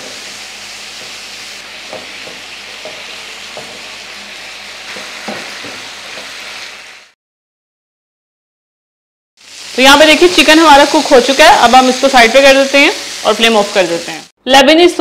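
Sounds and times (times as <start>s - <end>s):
chicken sizzling in a pan: 0.0s - 7.2s, 9.4s - 14.3s.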